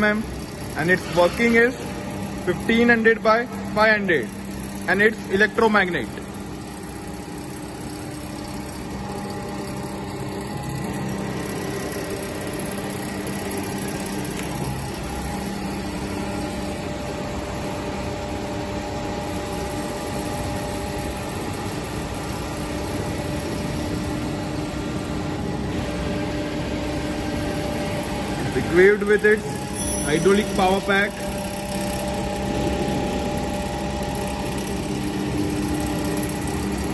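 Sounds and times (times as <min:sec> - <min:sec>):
surface grinder humming: 0:00.0 - 0:18.0, 0:25.2 - 0:36.9.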